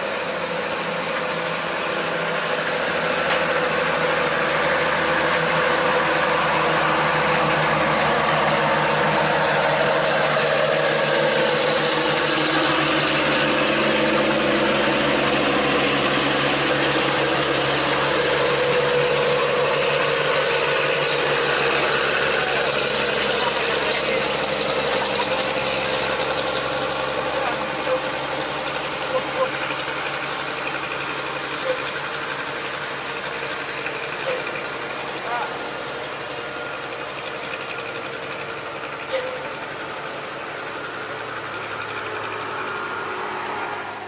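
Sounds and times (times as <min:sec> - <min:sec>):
diesel truck engine labouring: 0:00.0 - 0:44.0.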